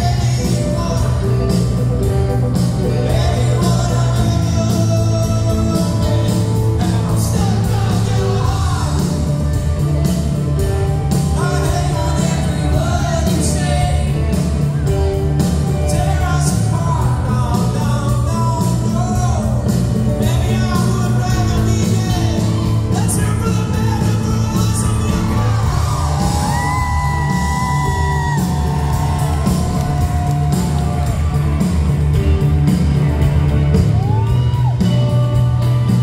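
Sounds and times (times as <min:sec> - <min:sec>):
live rock band with singing: 0:00.0 - 0:36.0.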